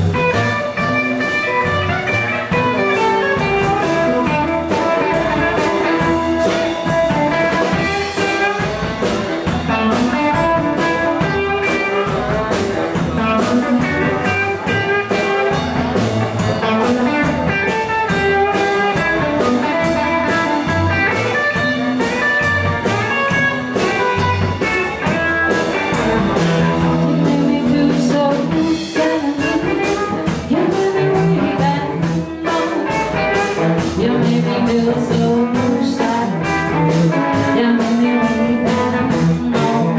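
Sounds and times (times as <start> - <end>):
drum kit beat: 0.0 - 39.9
electric guitar: 0.0 - 39.9
live rock and roll band: 0.0 - 39.9.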